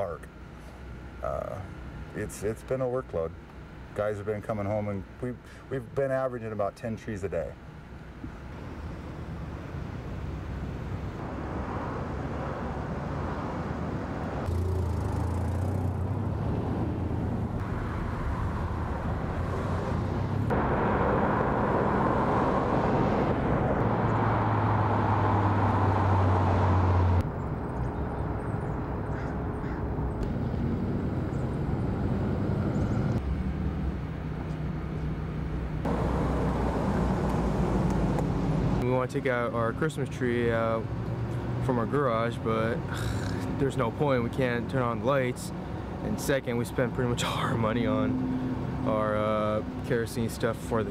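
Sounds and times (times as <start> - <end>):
street car traffic: 7.2 - 50.9.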